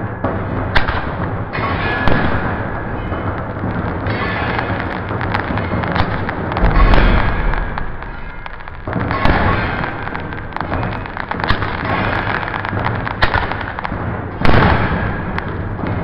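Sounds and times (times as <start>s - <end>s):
fireworks bangs: 0.0s - 16.0s
fireworks crackling and popping: 0.0s - 16.0s.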